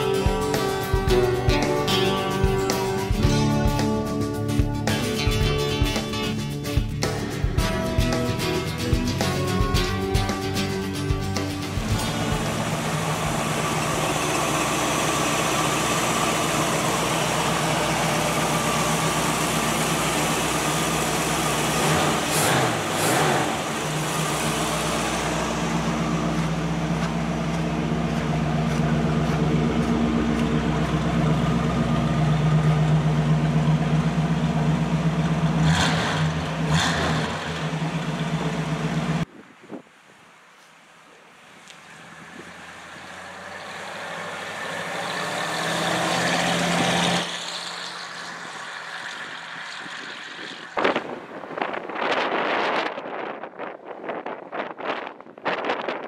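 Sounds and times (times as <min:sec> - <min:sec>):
car engine idling and revving: 0:00.0 - 0:39.3, 0:41.6 - 0:53.2.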